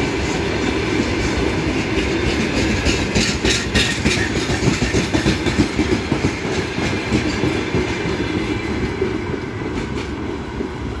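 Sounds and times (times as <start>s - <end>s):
freight train wheels clattering: 0.0s - 11.0s.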